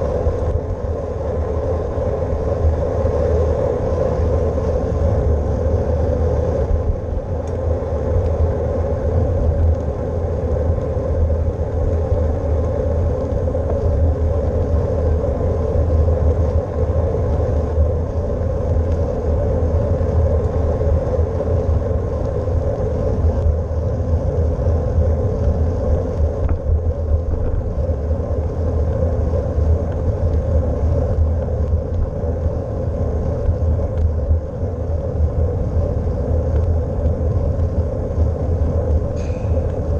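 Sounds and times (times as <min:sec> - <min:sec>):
tyre noise on road: 0:00.0 - 0:39.9
wind buffeting microphone: 0:00.0 - 0:39.9.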